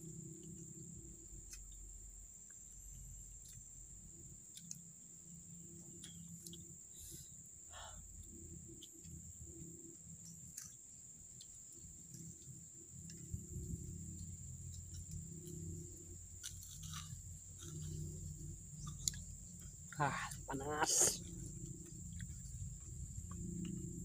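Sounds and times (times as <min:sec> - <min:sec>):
insect drone: 0:00.0 - 0:24.0.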